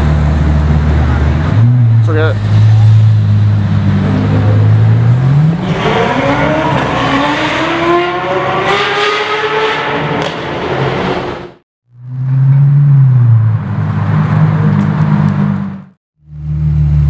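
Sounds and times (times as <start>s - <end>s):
car engine revving and accelerating: 0.0s - 17.0s.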